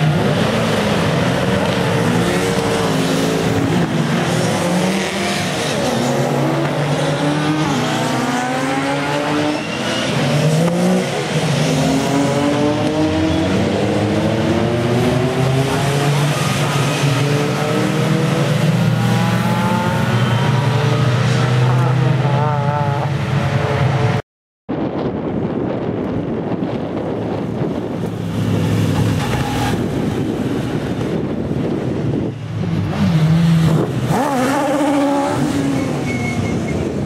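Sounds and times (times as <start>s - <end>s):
racing cars passing at speed: 0.0s - 24.2s, 26.2s - 37.0s.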